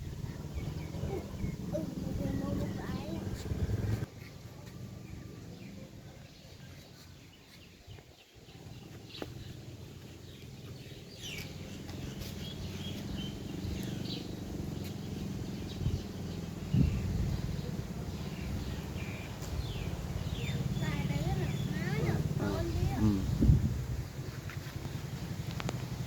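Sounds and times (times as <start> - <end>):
low steady background rumble: 0.0 - 4.1, 8.4 - 26.0
birds chirping: 0.0 - 26.0.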